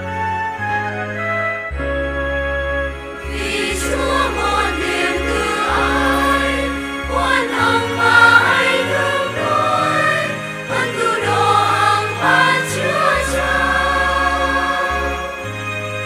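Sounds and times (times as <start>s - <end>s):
electronic keyboard accompaniment: 0.0s - 16.0s
choir singing a psalm: 3.1s - 16.0s.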